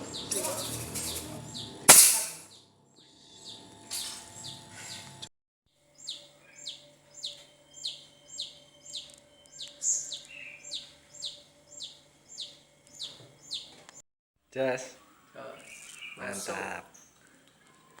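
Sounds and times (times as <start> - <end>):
bird chirping: 0.0 - 5.1, 5.8 - 14.0, 14.8 - 18.0.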